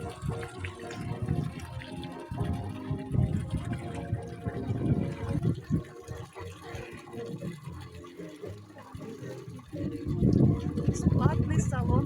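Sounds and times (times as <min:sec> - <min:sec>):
music with held notes: 0:00.0 - 0:12.0
water sloshing: 0:00.0 - 0:12.0.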